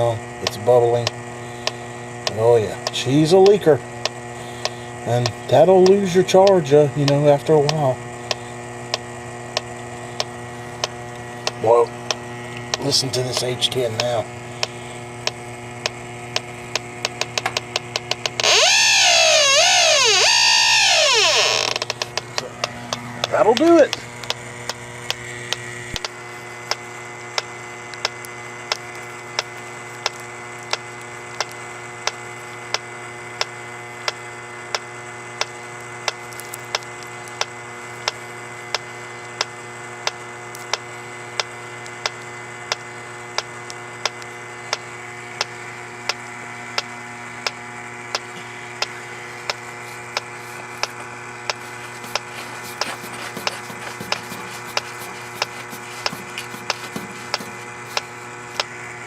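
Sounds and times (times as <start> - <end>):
leak detector ticking: 0.0 - 58.7
steady pump hum: 0.0 - 59.0.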